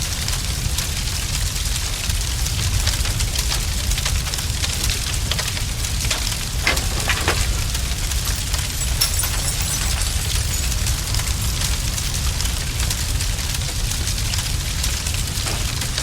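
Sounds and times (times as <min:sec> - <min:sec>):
fire crackling and popping: 0:00.0 - 0:16.0
fire rumbling: 0:00.0 - 0:16.0
loud fire snaps: 0:00.0 - 0:16.0.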